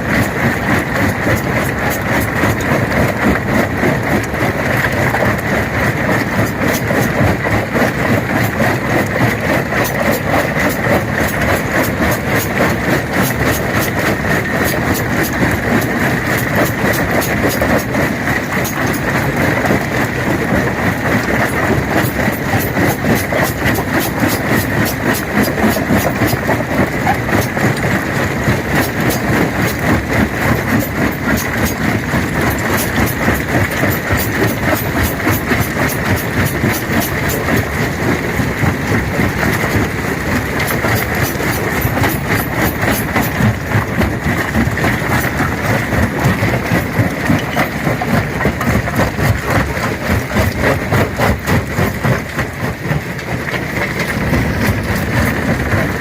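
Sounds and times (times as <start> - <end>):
stone crusher droning: 0.0 - 56.0.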